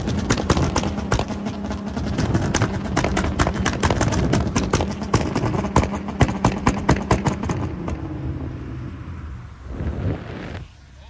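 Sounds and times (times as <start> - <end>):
exhausts popping and banging: 0.0 - 10.7
steady engine drone: 0.0 - 11.0.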